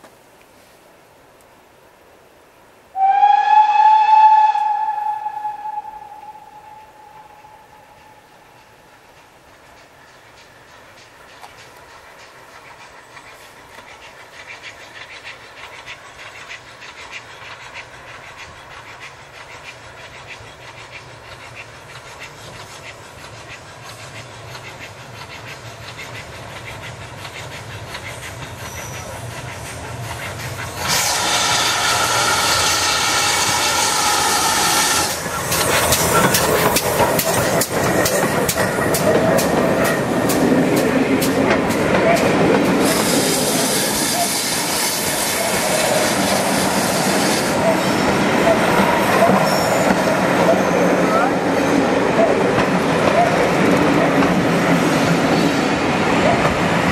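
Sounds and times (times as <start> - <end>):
hiss of steam: 2.9 - 56.9
steam train approaching: 2.9 - 56.9
wheels clacking over rail joints: 7.2 - 56.9.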